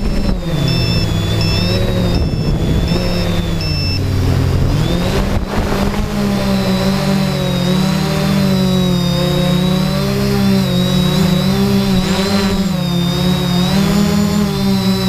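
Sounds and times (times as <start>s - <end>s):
drone motors whirring: 0.0s - 15.0s.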